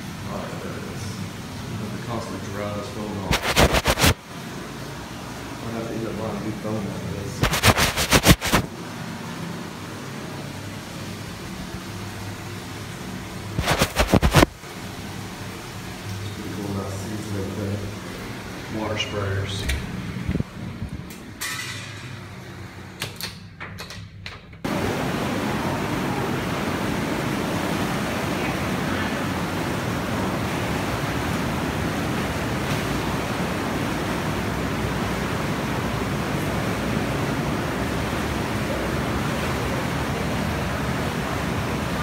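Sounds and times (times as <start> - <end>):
hot tub jets churning water: 0.0 - 23.1, 24.6 - 42.0.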